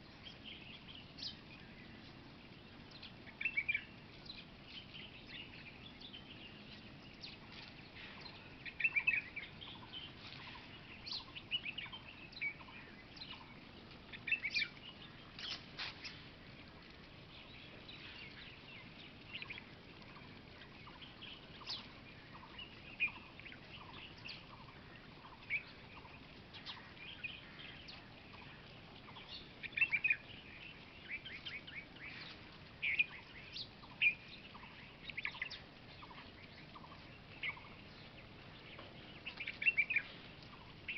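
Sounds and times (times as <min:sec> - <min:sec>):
wild birds chirping: 0:00.0 - 0:40.9.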